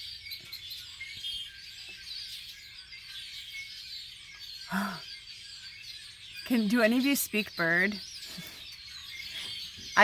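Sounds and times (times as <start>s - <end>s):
small birds chirping and trilling: 0.0s - 10.0s.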